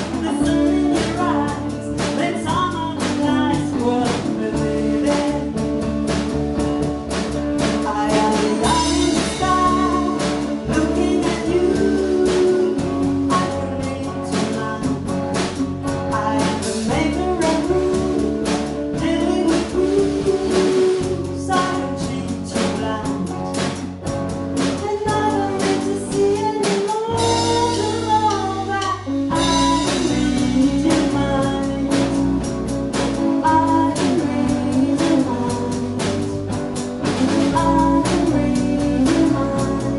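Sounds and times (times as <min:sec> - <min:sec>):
person singing lead: 0:00.0 - 0:06.0, 0:07.7 - 0:23.8, 0:24.7 - 0:39.9
band playing rock song: 0:00.0 - 0:39.9
drum kit beat: 0:00.0 - 0:39.9.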